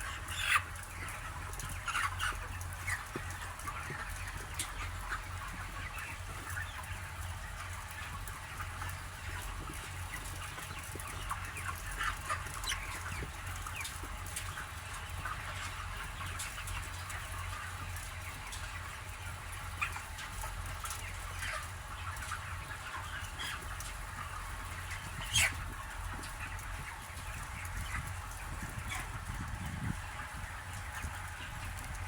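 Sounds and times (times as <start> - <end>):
chickens clucking and peeping: 0.0 - 32.0.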